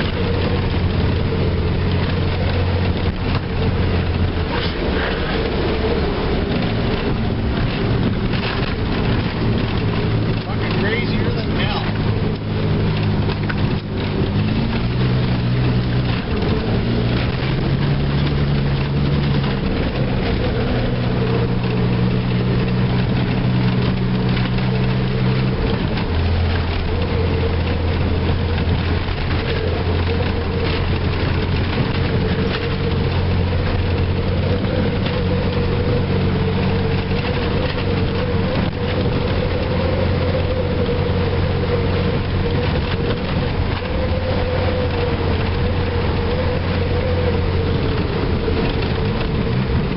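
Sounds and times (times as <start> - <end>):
truck engine running under load: 0.0 - 49.9
tyre and road noise: 0.0 - 49.9.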